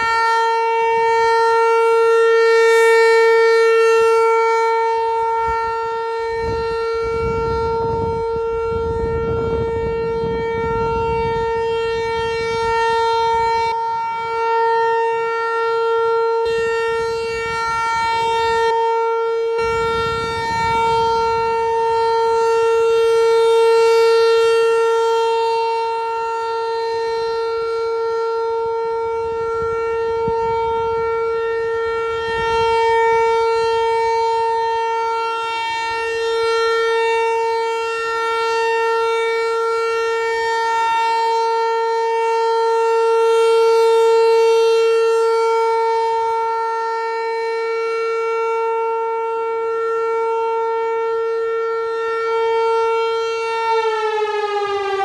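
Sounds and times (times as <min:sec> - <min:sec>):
warning siren: 0:00.0 - 0:55.0.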